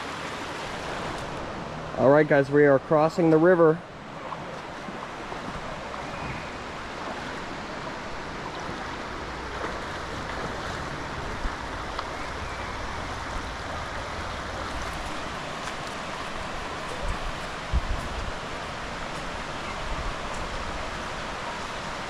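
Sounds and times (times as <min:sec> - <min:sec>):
river water flowing over rocks: 0:00.0 - 0:22.0.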